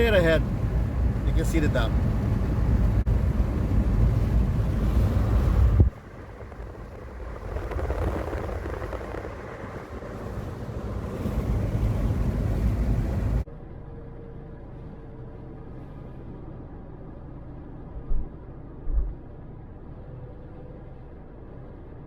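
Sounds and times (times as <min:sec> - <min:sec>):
car road and wind noise: 0:00.0 - 0:22.0.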